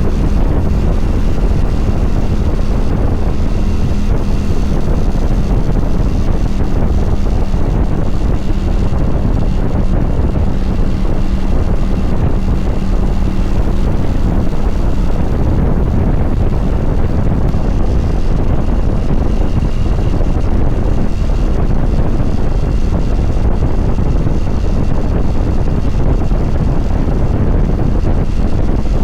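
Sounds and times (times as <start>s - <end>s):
motorcycle engine running: 0.0s - 29.0s
wind rushing over microphone: 0.0s - 29.0s.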